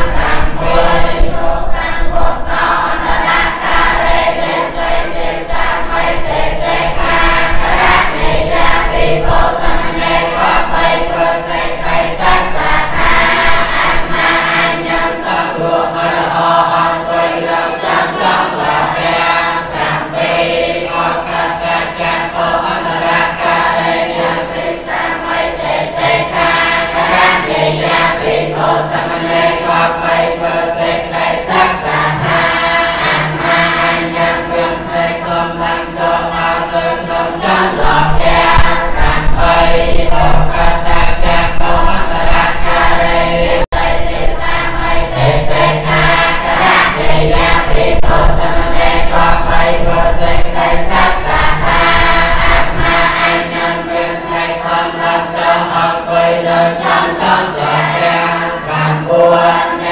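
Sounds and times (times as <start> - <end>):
monks chanting in unison: 0.0 - 59.9.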